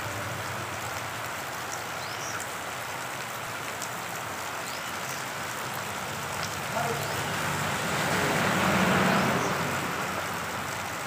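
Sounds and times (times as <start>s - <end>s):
heavy rain on road: 0.0s - 11.0s.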